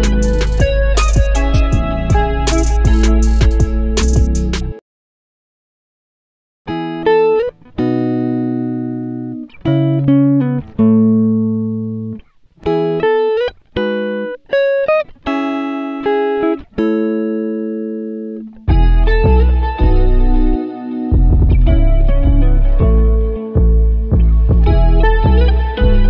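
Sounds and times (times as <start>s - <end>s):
plucked guitar melody: 0.0s - 4.8s, 6.7s - 26.0s.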